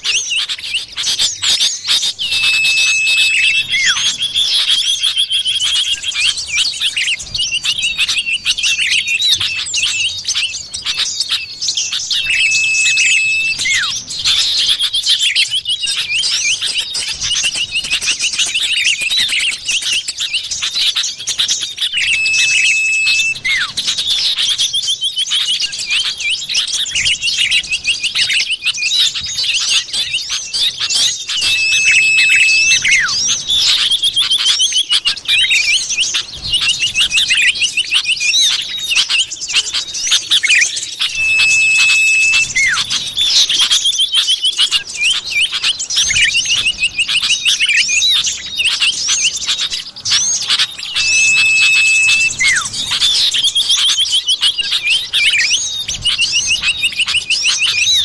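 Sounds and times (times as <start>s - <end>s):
drawn-out bird whistle: 0.0s - 58.0s
rapid chattering bird chirps: 0.0s - 58.0s.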